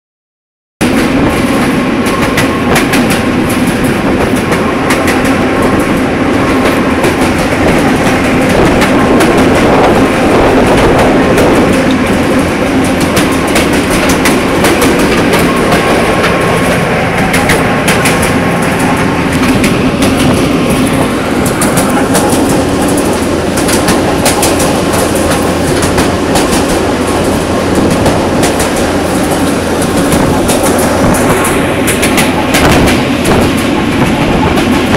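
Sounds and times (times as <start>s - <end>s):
diesel locomotive engine drone: 0.8s - 34.9s
wheels clattering over rails: 0.8s - 34.9s.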